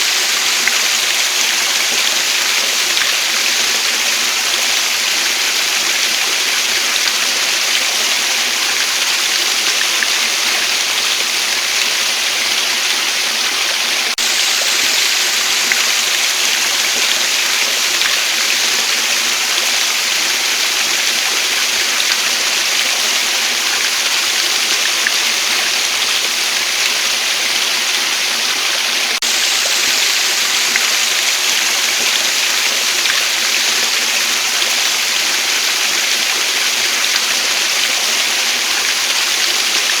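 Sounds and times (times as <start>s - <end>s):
waterfall rushing: 0.0s - 10.0s, 13.7s - 40.0s.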